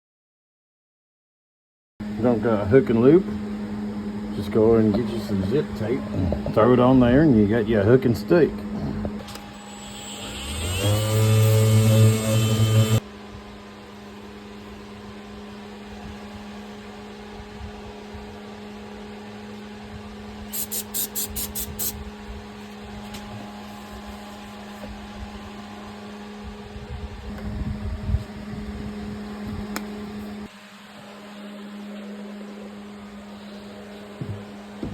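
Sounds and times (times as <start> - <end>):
machine hum: 2.0 - 34.9.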